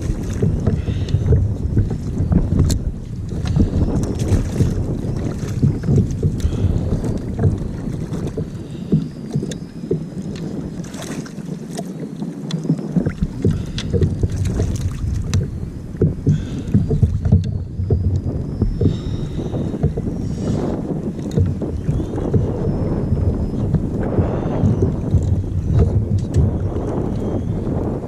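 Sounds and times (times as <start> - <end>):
water splashing against kayak hull: 0.0 - 28.0
wind rumbling on microphone: 0.0 - 28.0.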